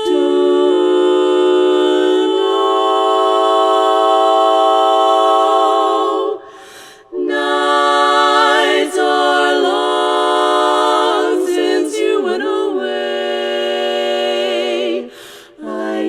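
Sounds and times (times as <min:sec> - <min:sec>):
a cappella choir singing: 0:00.0 - 0:16.0.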